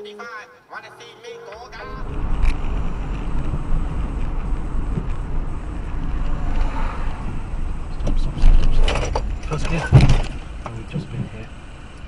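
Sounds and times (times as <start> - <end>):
vehicle low rumble: 1.6 - 12.0
wind on microphone: 1.8 - 12.0.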